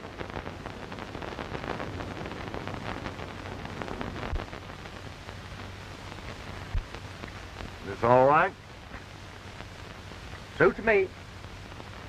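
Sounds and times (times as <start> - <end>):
film soundtrack hiss and crackle: 0.0 - 12.0
steady low hum: 0.0 - 12.0.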